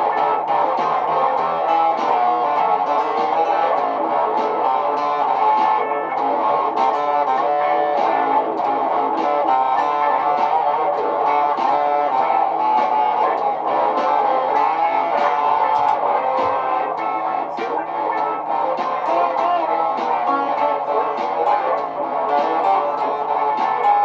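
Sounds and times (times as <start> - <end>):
electric guitar music: 0.0 - 24.0.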